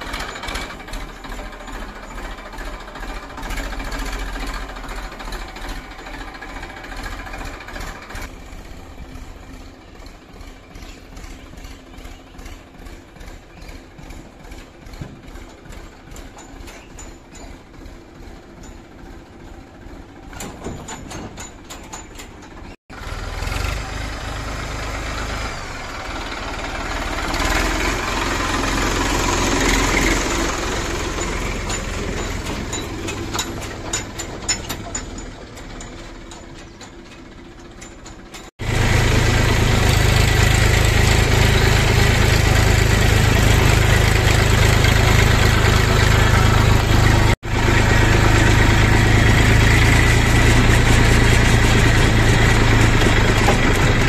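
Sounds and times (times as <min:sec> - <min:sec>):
tractor diesel engine: 0:00.0 - 0:54.0.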